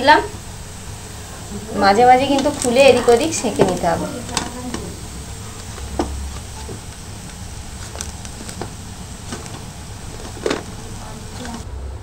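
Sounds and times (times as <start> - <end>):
gas burner rumble: 0.0 - 12.0.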